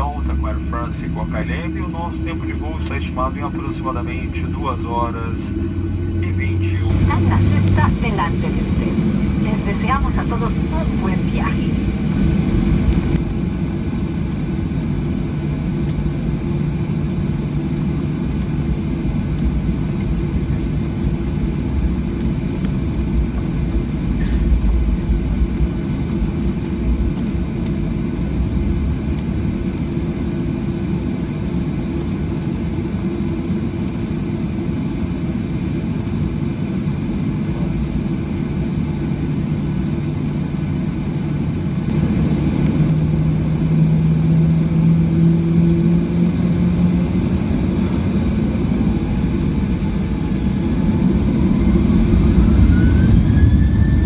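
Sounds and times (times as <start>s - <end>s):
jet engines humming: 0.0s - 54.0s.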